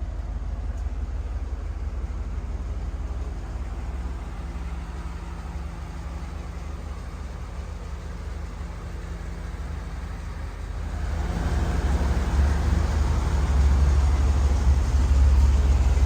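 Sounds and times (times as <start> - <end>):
engine rough low rumble: 0.0 - 16.0.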